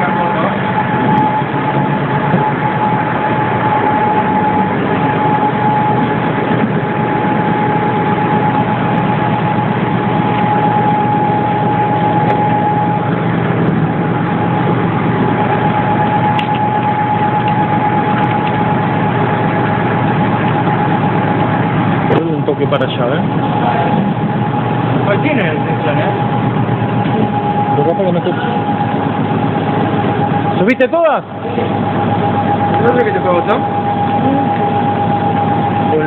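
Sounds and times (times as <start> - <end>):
heavy machinery running: 0.0 - 36.0.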